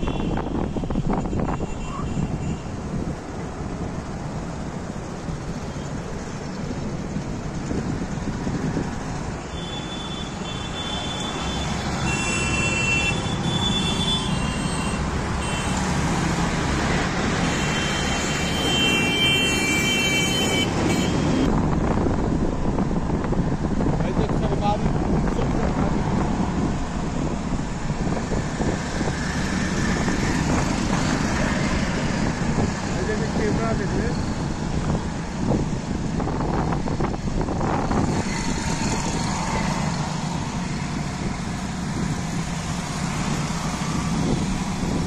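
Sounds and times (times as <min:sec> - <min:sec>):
road traffic passing: 0:00.0 - 0:45.0.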